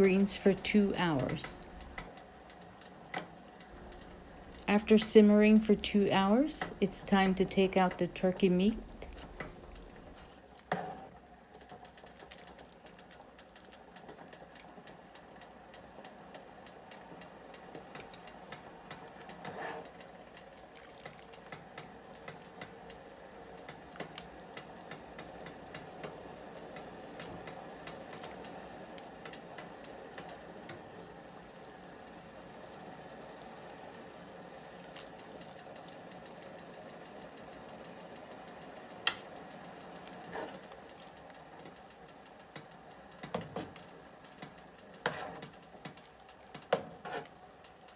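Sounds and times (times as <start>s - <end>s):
pot simmering and bubbling: 0.0s - 47.9s.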